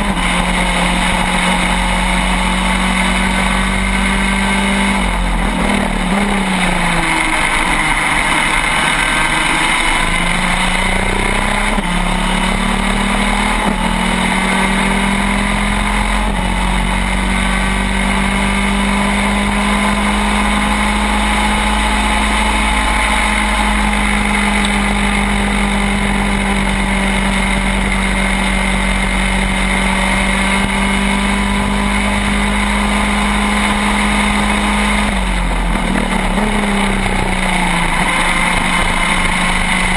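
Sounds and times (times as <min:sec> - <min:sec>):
kart engine revving hard: 0:00.0 - 0:39.9.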